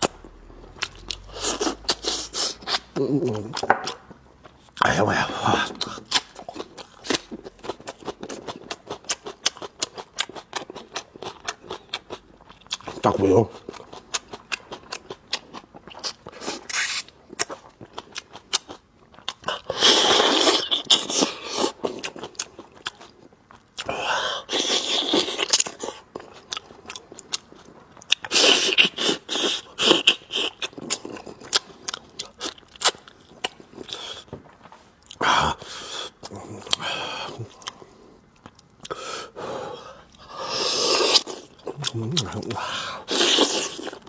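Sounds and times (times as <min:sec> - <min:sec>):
chewing and crunching meat: 0:00.0 - 0:35.2, 0:41.1 - 0:44.0.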